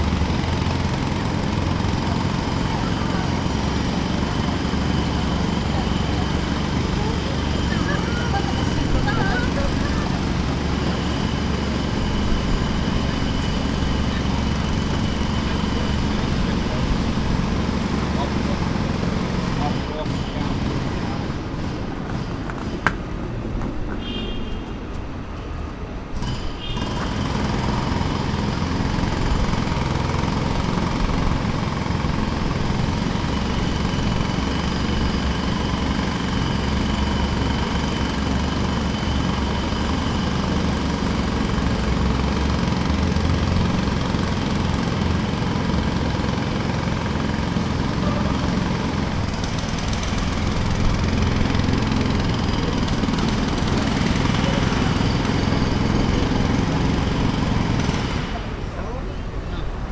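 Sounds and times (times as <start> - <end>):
pneumatic jackhammer running: 0.0 - 25.0, 25.9 - 59.8.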